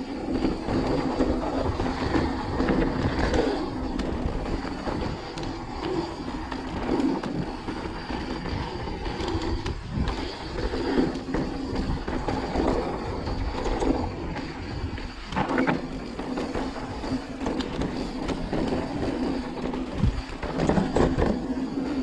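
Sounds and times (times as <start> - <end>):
bike clicking and rattling: 0.0 - 22.0
bike tyres rumbling on dirt: 0.0 - 22.0.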